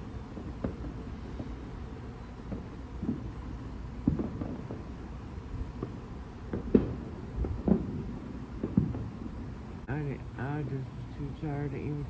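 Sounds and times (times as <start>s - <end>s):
distant fireworks bangs: 0.0s - 12.0s
low rumble of wind noise: 0.0s - 12.0s.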